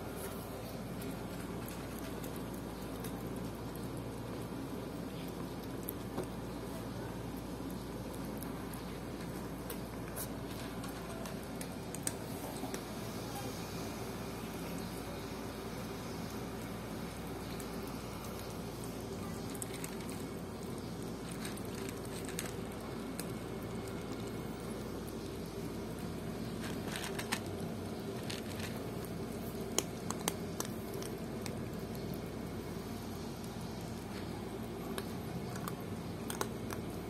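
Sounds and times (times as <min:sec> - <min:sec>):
cats chewing and licking: 0:00.0 - 0:37.0.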